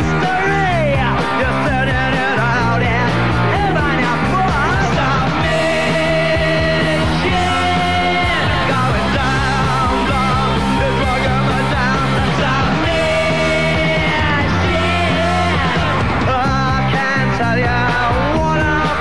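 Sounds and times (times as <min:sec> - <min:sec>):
loud lead vocal: 0:00.0 - 0:19.0
punk rock band playing: 0:00.0 - 0:19.0.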